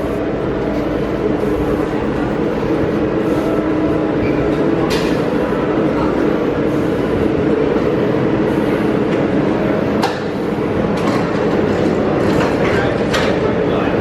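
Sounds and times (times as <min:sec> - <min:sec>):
monorail train hum and rumble: 0:00.0 - 0:14.0.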